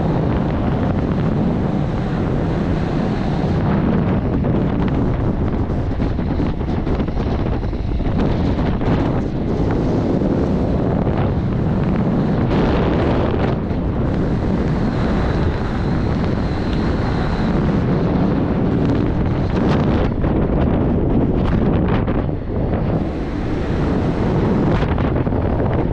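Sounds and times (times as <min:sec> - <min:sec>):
crawler tractor running: 0:00.0 - 0:25.9
wind buffeting microphone: 0:00.0 - 0:25.9.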